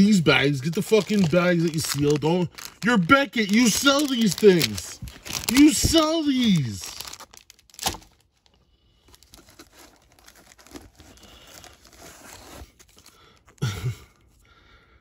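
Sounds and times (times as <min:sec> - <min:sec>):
plastic packaging crinkling: 0:00.0 - 0:08.5, 0:09.1 - 0:13.6.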